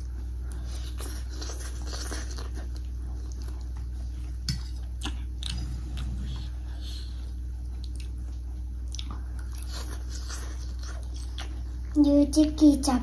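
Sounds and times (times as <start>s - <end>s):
chewing and slurping noodles: 0.0s - 11.9s
steady low hum: 0.0s - 13.0s.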